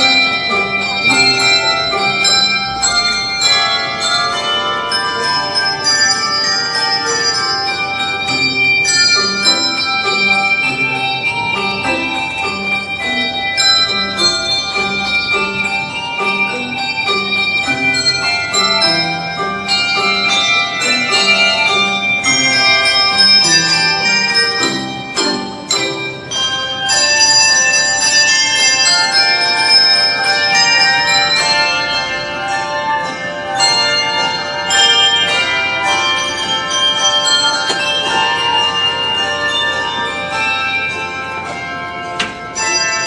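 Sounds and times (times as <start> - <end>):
handbell choir playing: 0.0 - 43.0.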